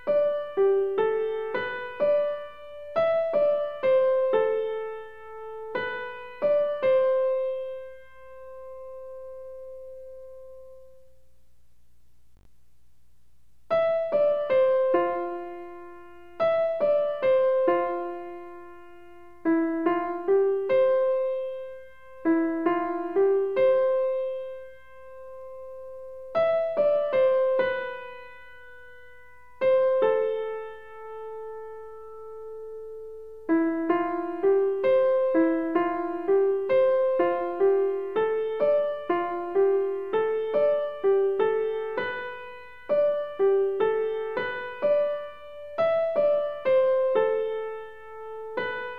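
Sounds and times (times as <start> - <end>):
slow piano melody: 0.0 - 11.4, 13.7 - 48.9.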